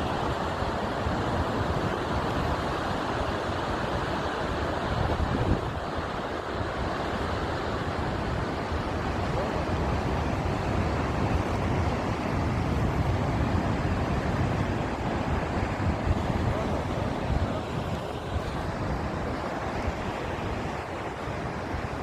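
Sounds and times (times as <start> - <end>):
storm waves breaking: 0.0 - 22.0
wind buffeting microphone: 0.0 - 22.0.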